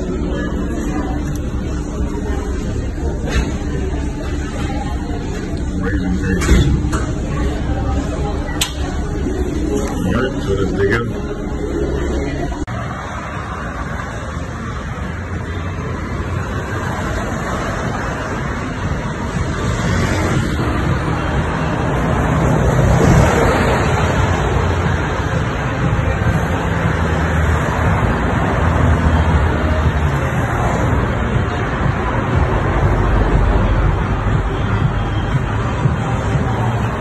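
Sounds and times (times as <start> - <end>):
cars driving past: 0.0 - 37.0.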